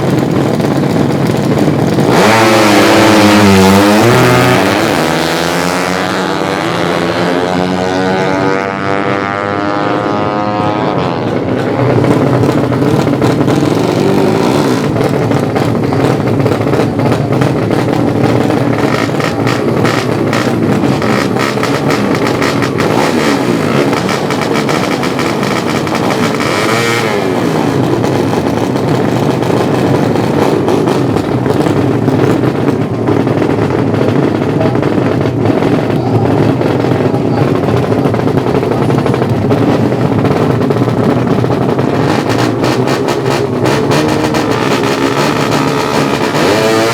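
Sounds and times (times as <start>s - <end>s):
motorcycle engines racing: 0.0s - 46.9s.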